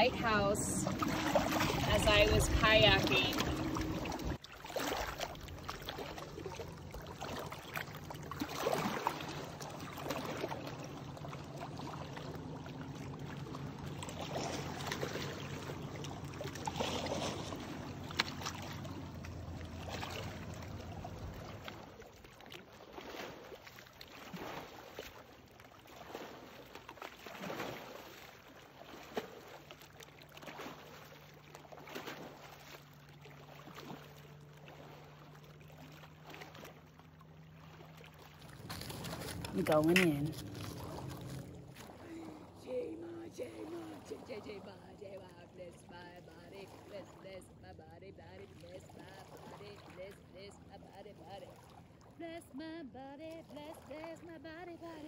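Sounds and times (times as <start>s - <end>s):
low steady hum: 0.0s - 22.4s, 30.2s - 55.0s
waves lapping on rocky shore: 0.0s - 55.0s.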